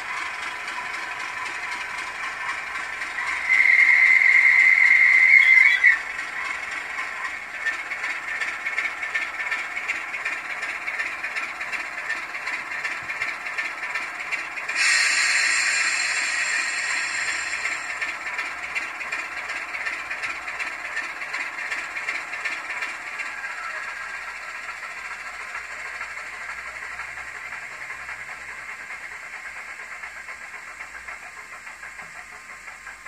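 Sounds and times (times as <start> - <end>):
tiny speaker diesel engine sound: 0.0 - 33.0.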